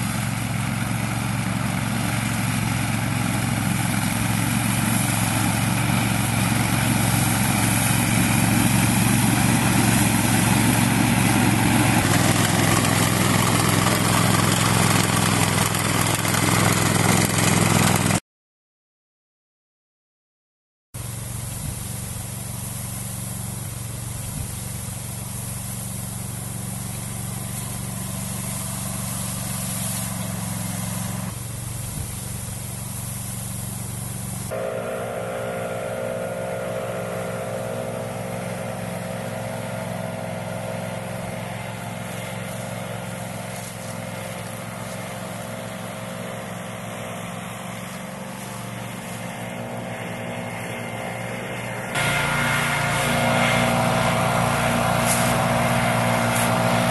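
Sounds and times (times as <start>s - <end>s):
motor mower engine running: 0.0s - 18.2s, 21.0s - 56.9s.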